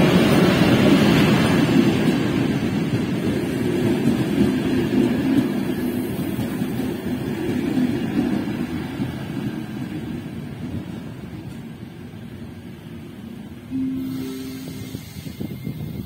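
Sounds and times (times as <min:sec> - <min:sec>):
train wheels rumbling on rails: 0:00.0 - 0:13.4, 0:14.2 - 0:16.0.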